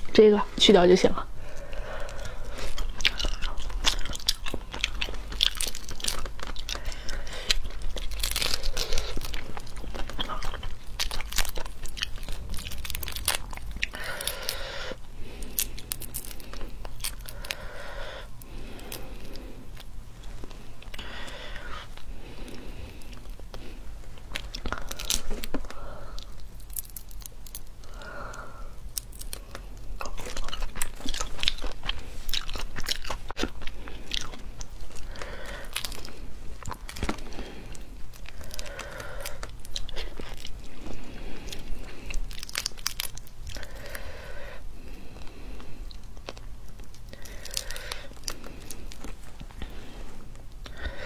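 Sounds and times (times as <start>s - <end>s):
chewing and crunching: 1.4s - 51.0s
prawn shells cracking: 1.5s - 20.0s, 20.8s - 51.0s.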